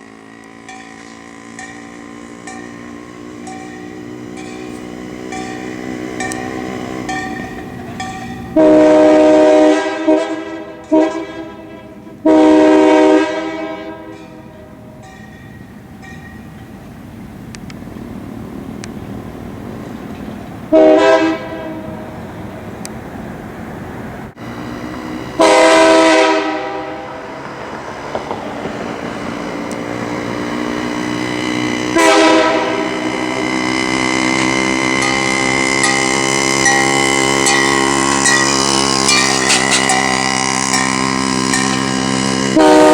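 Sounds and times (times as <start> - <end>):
quieter held horn chord: 0.0 - 15.8, 20.7 - 22.6, 24.3 - 42.9
train horn blasts: 0.0 - 16.7, 20.7 - 22.6, 24.4 - 42.9.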